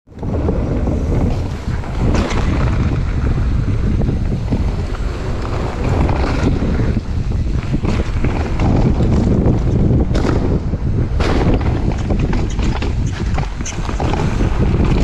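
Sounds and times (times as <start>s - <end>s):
bike rattling over bumps: 0.1s - 15.0s
bike tyre rumble: 0.1s - 15.0s
wind buffeting microphone: 0.1s - 15.0s.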